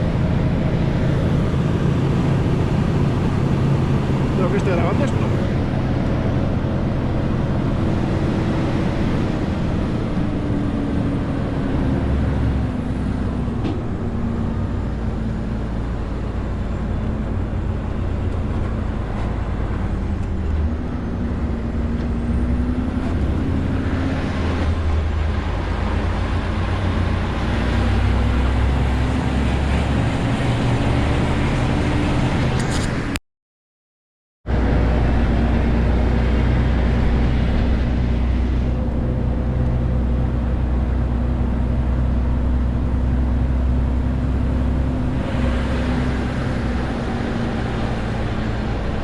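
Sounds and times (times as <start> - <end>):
diesel truck engine under load: 0.0 - 33.2, 34.5 - 49.0.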